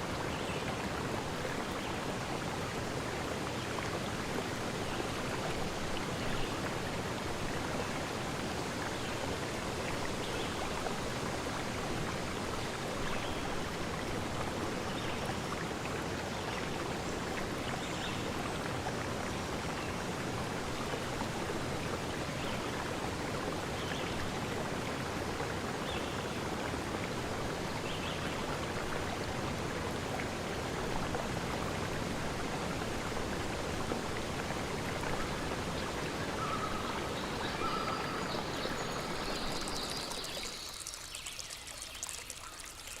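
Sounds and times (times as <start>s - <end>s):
forest stream flowing: 0.0s - 43.0s.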